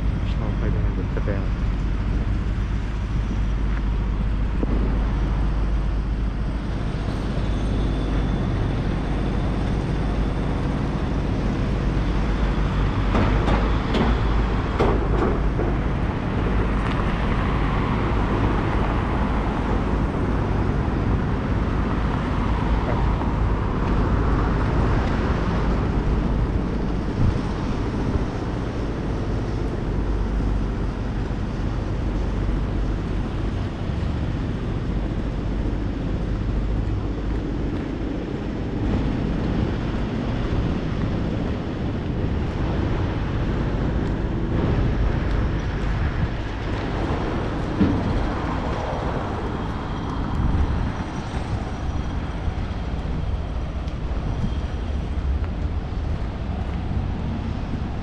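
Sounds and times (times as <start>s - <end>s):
cars and van driving past: 0.0s - 58.0s
low traffic rumble: 0.0s - 58.0s.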